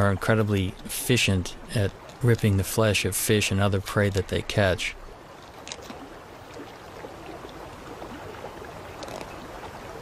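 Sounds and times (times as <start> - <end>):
river water running over stones: 0.0 - 10.0.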